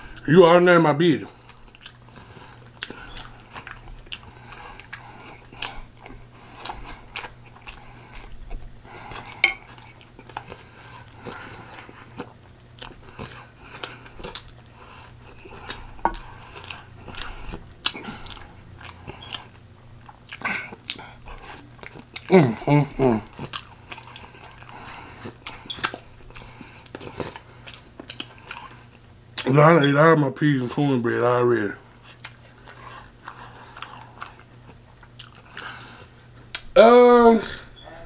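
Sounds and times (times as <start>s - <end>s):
person chewing and biting: 1.4s - 29.5s, 31.9s - 36.7s.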